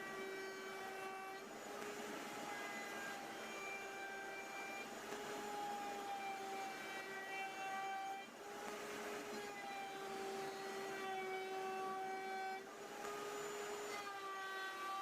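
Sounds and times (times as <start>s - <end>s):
electric router motor whine: 0.0s - 15.0s.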